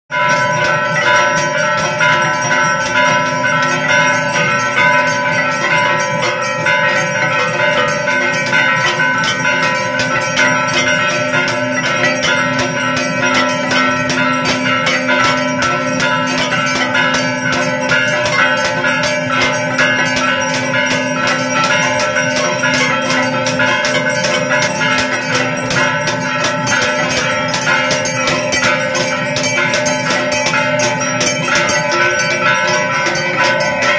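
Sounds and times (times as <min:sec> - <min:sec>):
brass bells ringing rapidly: 0:00.1 - 0:33.9
handbell swung: 0:00.1 - 0:33.9.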